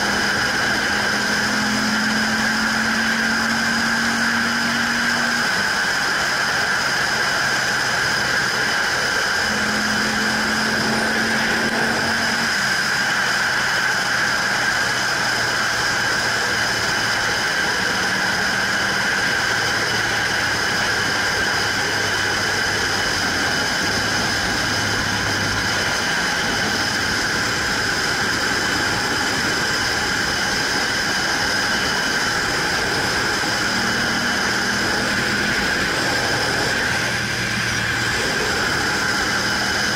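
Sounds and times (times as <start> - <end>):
high-pitched whine: 0.0 - 39.9
motorcycle engine: 0.0 - 39.9
wind and road noise: 0.0 - 39.9.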